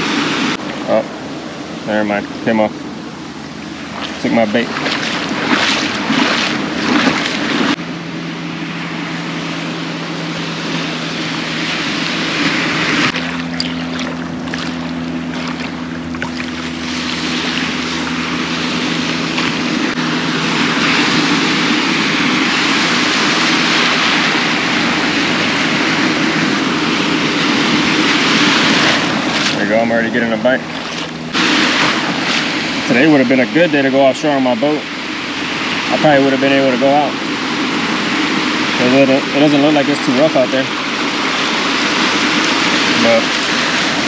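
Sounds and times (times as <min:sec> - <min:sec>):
ocean surf washing in: 0:00.0 - 0:44.0
steady low hum: 0:00.0 - 0:44.0
wind buffeting microphone: 0:00.0 - 0:44.0.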